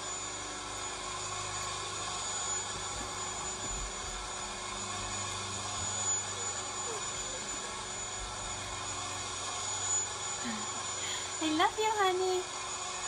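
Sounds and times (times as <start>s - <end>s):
high whine: 0.0s - 11.4s
machine hum: 0.0s - 11.5s.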